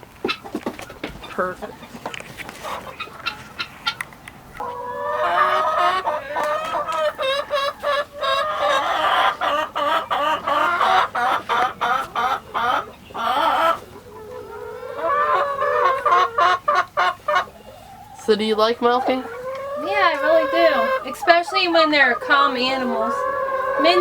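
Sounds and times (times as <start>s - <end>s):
chickens clucking and cackling: 0.0s - 24.0s.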